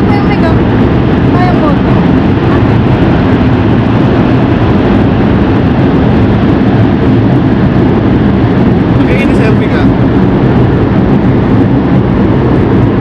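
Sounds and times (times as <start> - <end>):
volcanic crater rumbling: 0.0 - 13.0.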